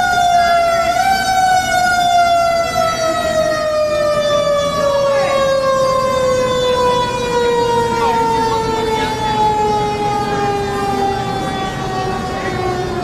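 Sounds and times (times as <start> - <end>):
siren falling in pitch: 0.0 - 13.0.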